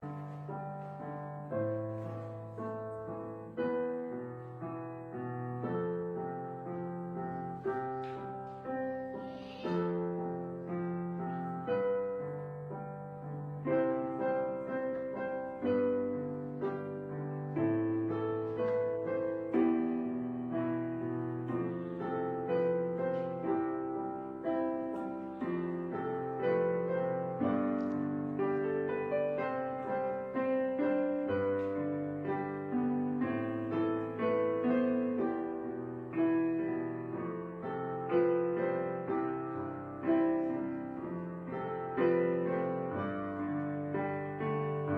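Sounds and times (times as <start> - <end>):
solo piano music: 0.0 - 44.9.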